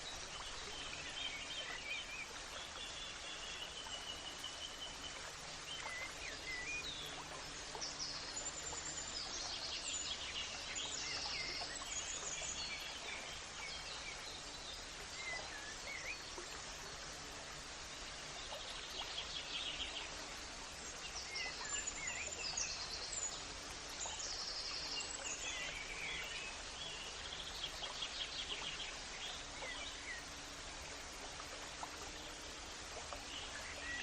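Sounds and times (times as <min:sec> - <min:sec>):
background hiss: 0:00.0 - 0:34.0.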